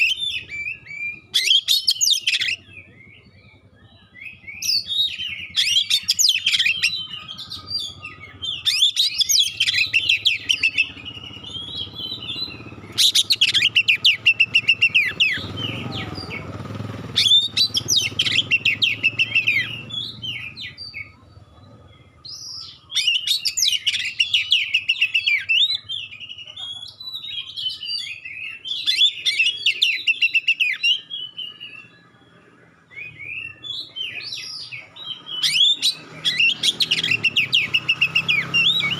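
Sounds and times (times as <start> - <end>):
bird singing chirps and whistles: 0.0 - 38.9.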